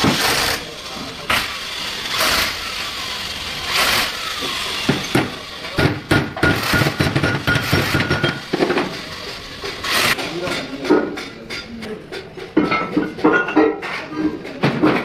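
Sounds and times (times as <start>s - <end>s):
continuous workshop din: 0.0s - 15.0s.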